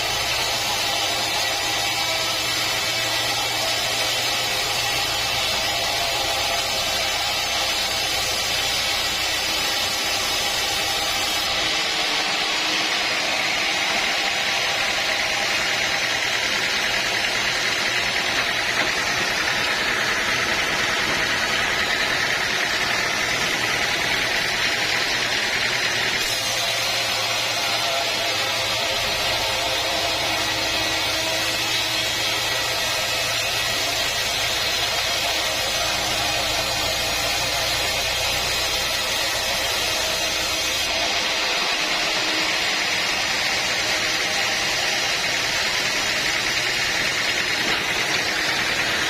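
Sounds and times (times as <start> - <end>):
sawmill machinery whirring: 0.0 - 49.0.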